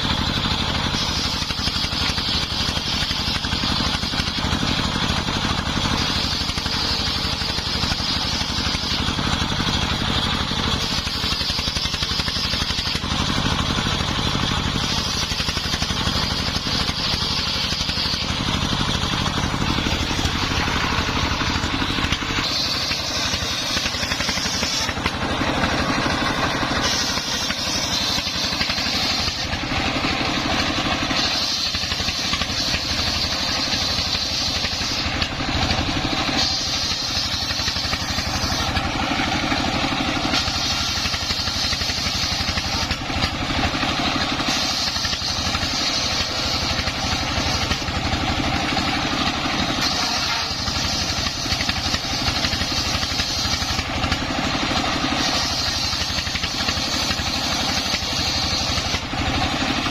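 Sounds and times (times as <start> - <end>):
circular saw blade whine: 0.0 - 59.9
diesel engine running: 0.0 - 59.9.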